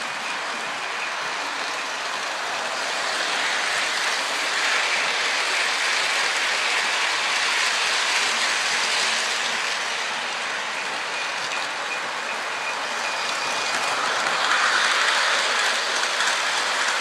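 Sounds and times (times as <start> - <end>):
model train rattling on track: 0.0 - 17.0.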